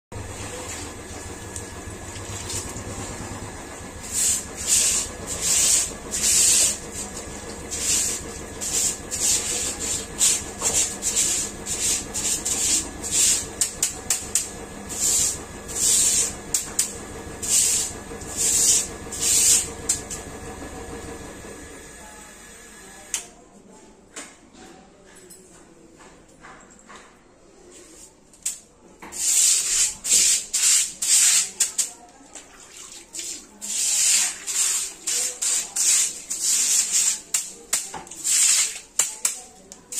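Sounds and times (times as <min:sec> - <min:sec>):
broom sweeping tiled floor: 0:00.2 - 0:20.3, 0:27.4 - 0:39.9.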